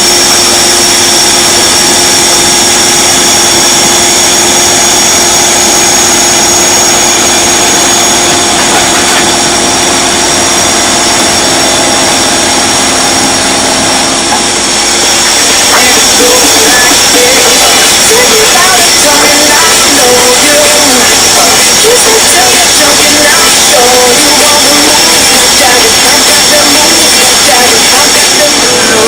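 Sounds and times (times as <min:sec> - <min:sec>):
engine running with droning hum: 0:00.0 - 0:29.0
high whine: 0:00.0 - 0:29.0.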